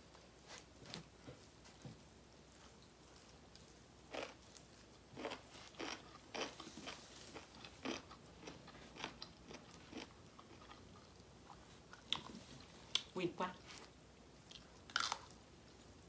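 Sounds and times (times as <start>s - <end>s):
chewing and crunching food: 2.5s - 16.0s.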